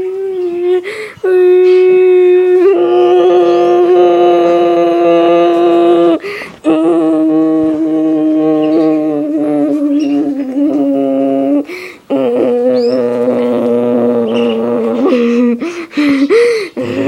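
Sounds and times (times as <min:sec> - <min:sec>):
person humming low notes: 0:00.0 - 0:17.0.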